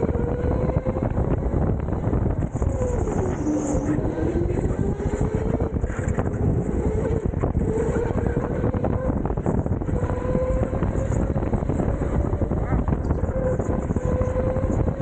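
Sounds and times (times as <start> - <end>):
go-kart motor whine: 0.0 - 15.0
tyres and chassis rumble: 0.0 - 15.0.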